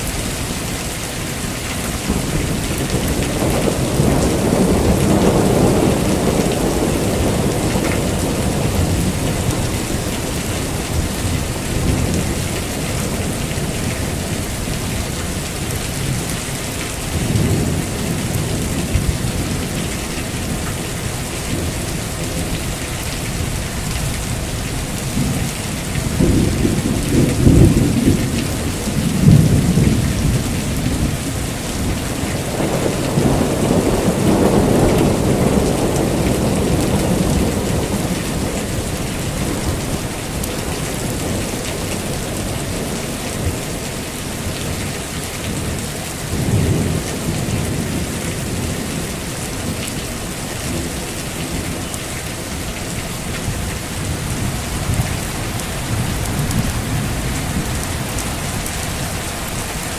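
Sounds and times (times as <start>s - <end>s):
heavy rain falling: 0.0s - 59.9s
thunder rumbling: 2.0s - 59.9s.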